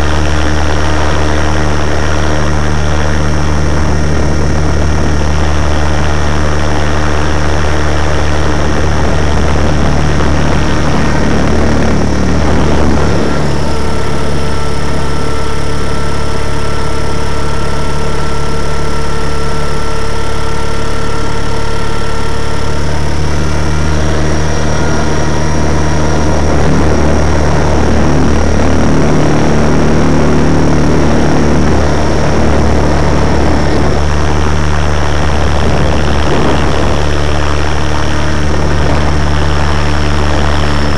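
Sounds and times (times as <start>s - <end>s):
high steady whine: 0.0s - 40.9s
model helicopter motor and rotors: 0.0s - 40.9s.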